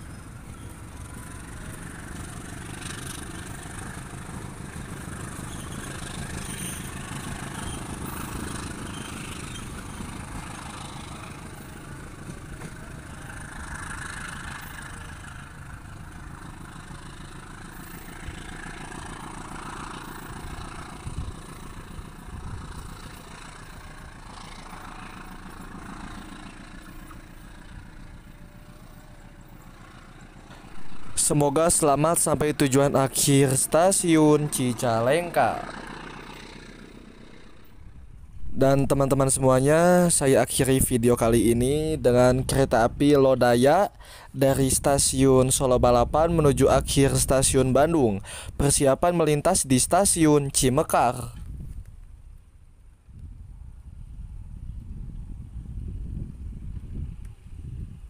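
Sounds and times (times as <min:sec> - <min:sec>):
train wheels rumbling on rails: 0:00.0 - 0:52.1.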